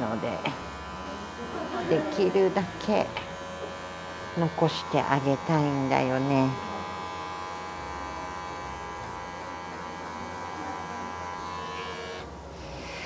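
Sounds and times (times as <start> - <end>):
electric clippers shaving fur: 0.0 - 13.0.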